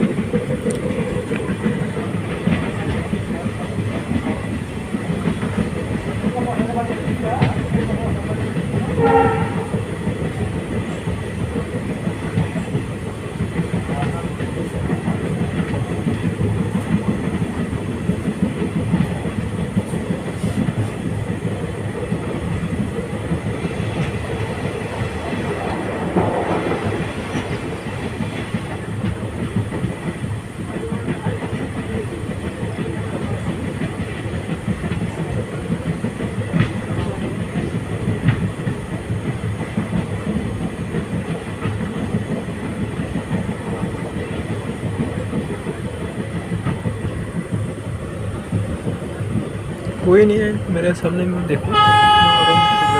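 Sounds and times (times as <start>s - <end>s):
train rumbling along track: 0.0s - 52.9s.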